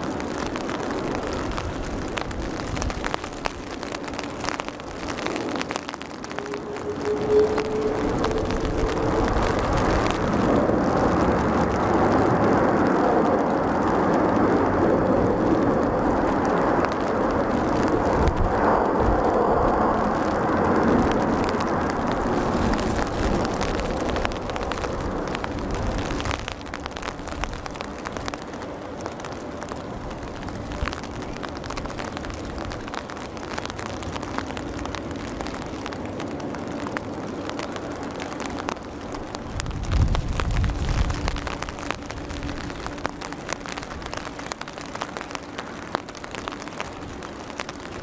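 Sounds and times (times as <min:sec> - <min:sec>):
jet airliner landing: 0:00.0 - 0:48.0
raindrops pattering: 0:00.0 - 0:48.0.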